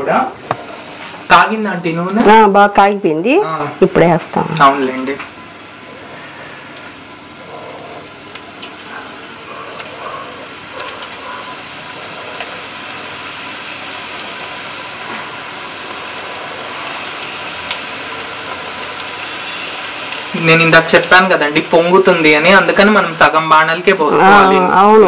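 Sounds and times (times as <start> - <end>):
batter sizzling in hot oil: 0.0 - 25.0.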